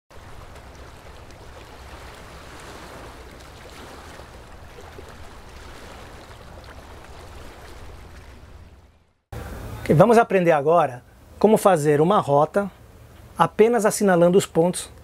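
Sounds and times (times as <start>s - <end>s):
water rushing with deep rumble: 0.1s - 13.6s.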